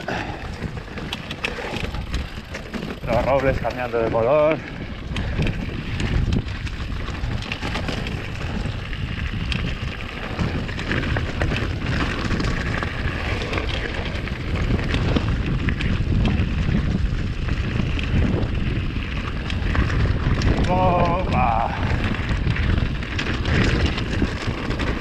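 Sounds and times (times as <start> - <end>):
bike clicks and rattles: 0.0 - 25.0
tyres on loose stones: 0.0 - 25.0
wind on microphone: 0.0 - 25.0.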